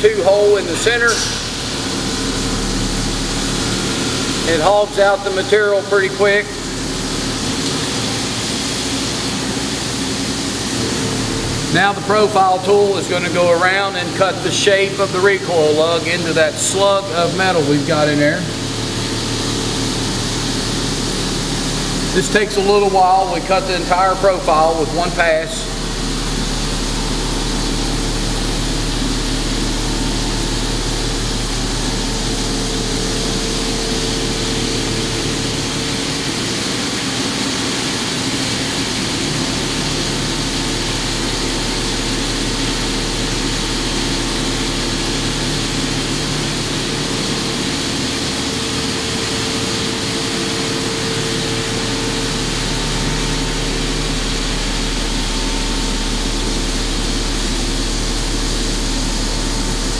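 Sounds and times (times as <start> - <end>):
coolant spray hissing: 0.0 - 59.9
milling machine cutting steel: 0.0 - 59.9.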